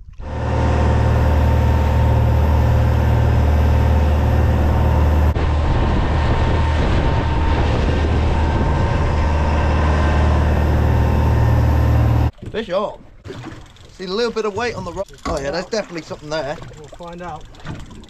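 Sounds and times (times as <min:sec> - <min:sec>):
boat engine droning: 0:00.0 - 0:18.0
water rushing along hull: 0:00.0 - 0:18.0.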